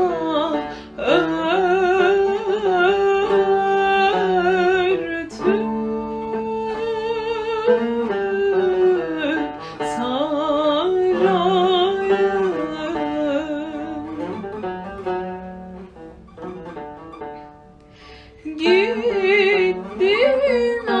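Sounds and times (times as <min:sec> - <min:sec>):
woman singing with vibrato: 0:00.0 - 0:15.4, 0:18.4 - 0:21.0
plucked strings: 0:00.0 - 0:21.0.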